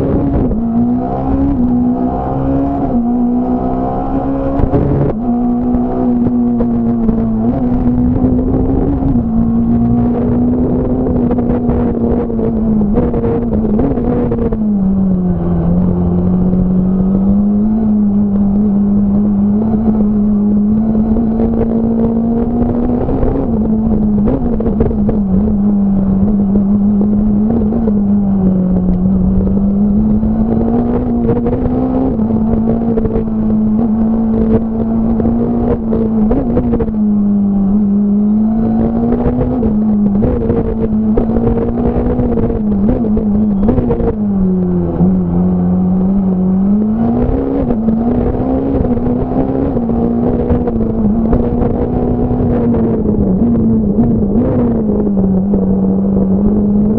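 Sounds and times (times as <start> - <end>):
rally car engine at high revs: 0.0 - 56.9.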